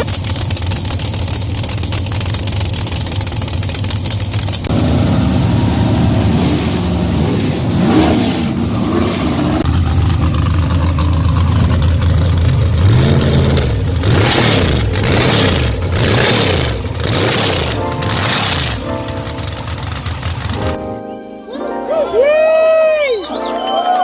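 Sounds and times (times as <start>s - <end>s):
car engine revving: 0.0s - 20.8s.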